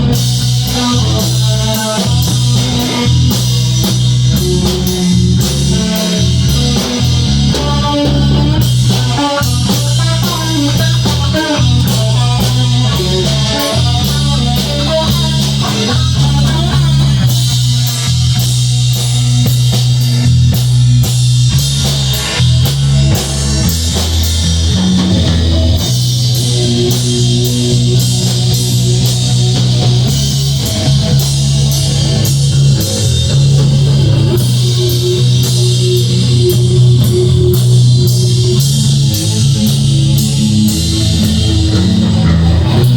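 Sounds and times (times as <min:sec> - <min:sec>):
bass guitar: 0:00.0 - 0:42.9
drum kit: 0:00.0 - 0:42.9.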